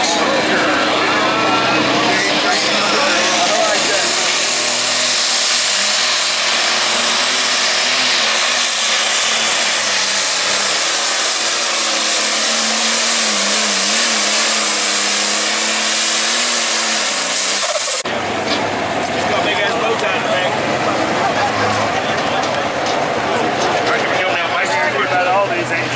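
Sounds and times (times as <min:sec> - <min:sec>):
diesel tractor engine at full load: 0:00.0 - 0:25.9.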